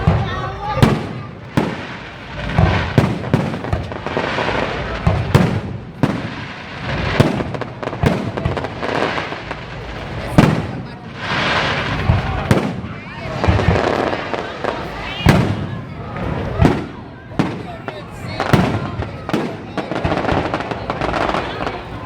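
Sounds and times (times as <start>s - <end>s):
fireworks booming: 0.0s - 22.0s
fireworks crackling: 0.0s - 22.0s.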